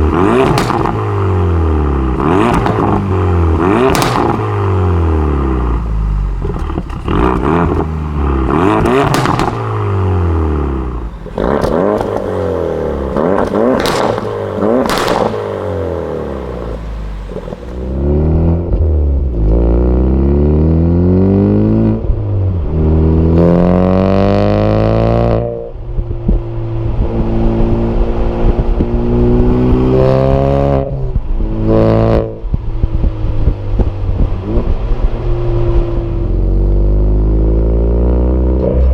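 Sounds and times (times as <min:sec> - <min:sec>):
car engine revving through gears: 0:00.0 - 0:38.9
exhaust crackles: 0:00.0 - 0:38.9.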